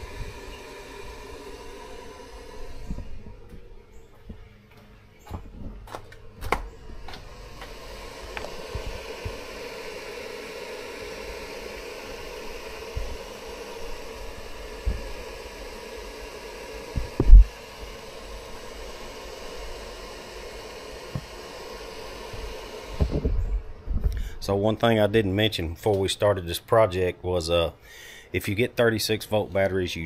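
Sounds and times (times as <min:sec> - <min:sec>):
faint hum: 0:00.0 - 0:30.0
fan-like hiss: 0:00.0 - 0:30.0.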